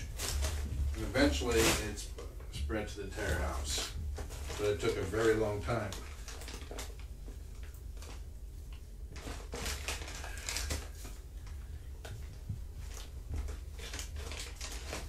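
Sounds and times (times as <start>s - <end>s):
light rustles and crinkles: 0.0s - 15.0s
low steady hum: 0.0s - 15.0s.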